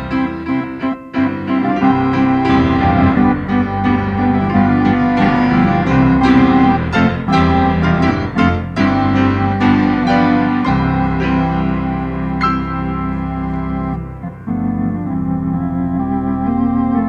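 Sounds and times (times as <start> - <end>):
organ tones: 0.0 - 17.0
piano notes and chords: 0.0 - 17.0.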